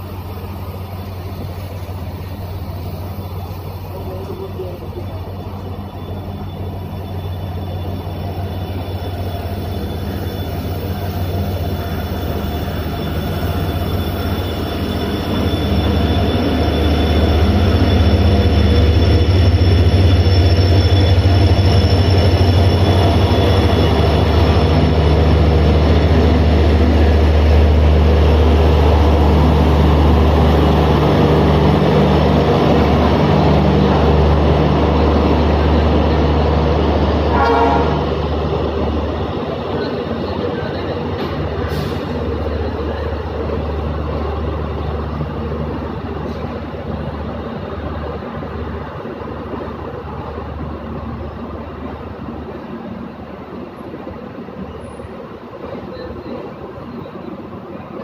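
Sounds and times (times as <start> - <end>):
diesel locomotive engine hum: 0.0 - 58.0
high squeal from wheels: 0.8 - 53.2, 54.1 - 57.8.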